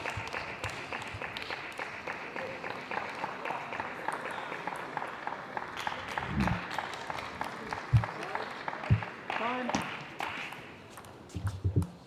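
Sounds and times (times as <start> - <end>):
spectators applauding: 0.0 - 10.7.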